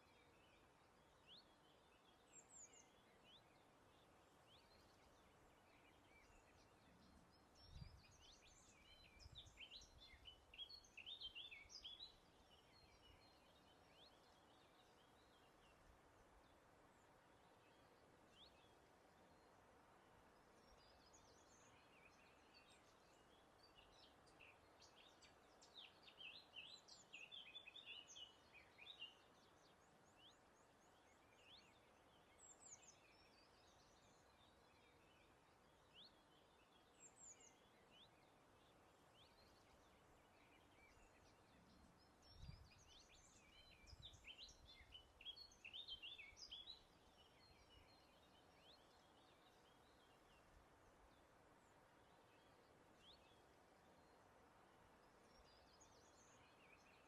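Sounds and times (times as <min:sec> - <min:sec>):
faint breeze hiss: 0:00.0 - 0:57.0
songbird chirping and trilling: 0:00.0 - 0:57.0.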